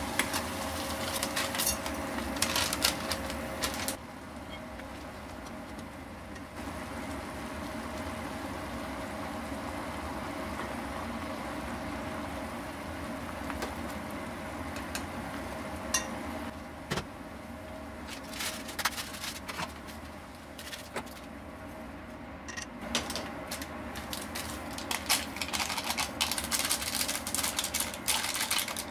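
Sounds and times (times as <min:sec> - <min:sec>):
noodles boiling and bubbling: 0:00.0 - 0:28.9.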